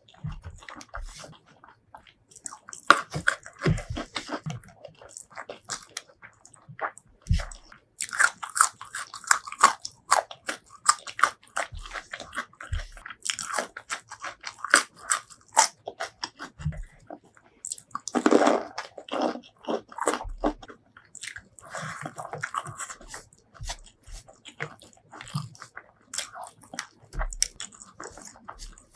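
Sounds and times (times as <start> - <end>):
crisp crunching of food: 0.0 - 28.9
wet chewing: 0.0 - 28.9.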